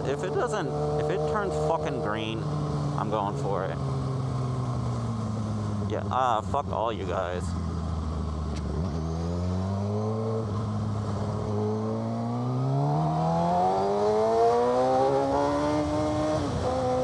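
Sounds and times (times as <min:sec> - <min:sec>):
motorcycle engine accelerating hard: 0:00.0 - 0:17.0.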